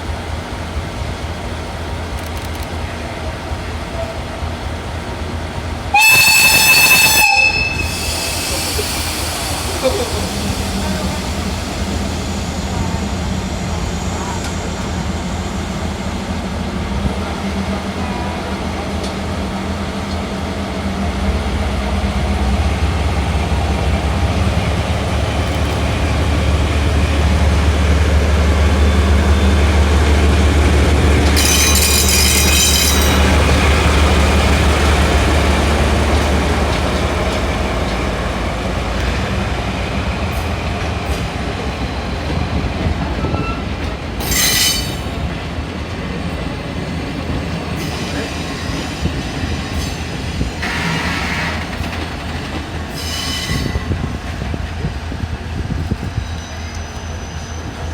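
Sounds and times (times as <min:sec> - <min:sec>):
diesel locomotive engine: 0:00.0 - 0:57.9
train wheels on rails: 0:00.0 - 0:57.9.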